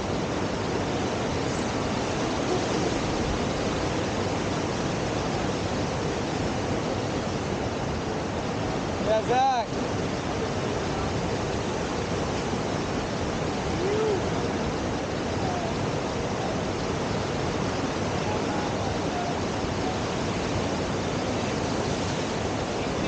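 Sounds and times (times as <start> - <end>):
rushing whitewater: 0.0 - 23.0.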